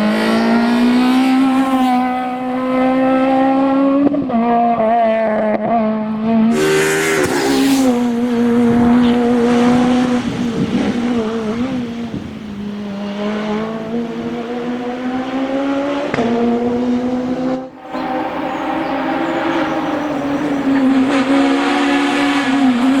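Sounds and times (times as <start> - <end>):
rally car engine at high revs: 0.0 - 23.0.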